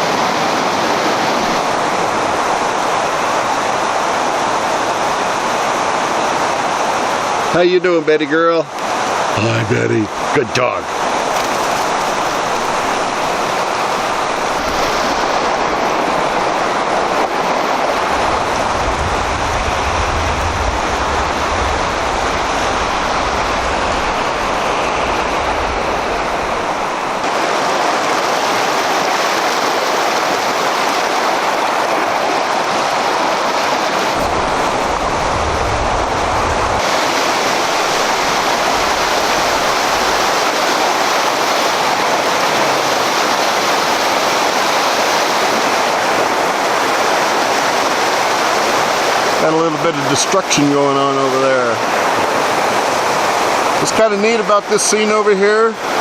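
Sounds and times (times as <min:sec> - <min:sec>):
river water roaring: 0:00.0 - 0:56.0.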